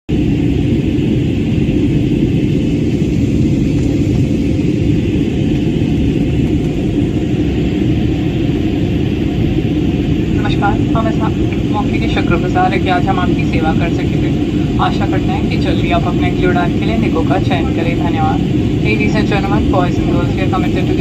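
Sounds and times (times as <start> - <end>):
airliner cabin engine roar: 0.1 - 21.0.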